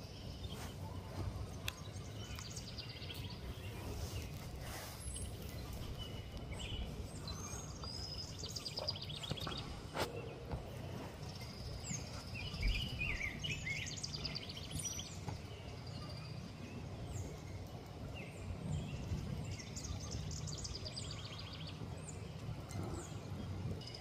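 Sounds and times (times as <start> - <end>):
songbirds chirping and singing: 0.0 - 24.0.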